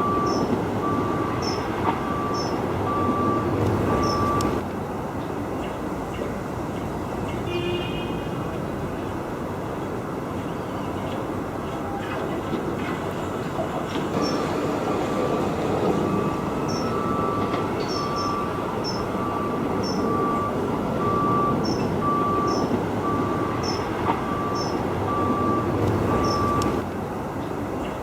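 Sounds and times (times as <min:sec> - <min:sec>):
train rumble: 0:00.0 - 0:07.3, 0:08.4 - 0:28.0.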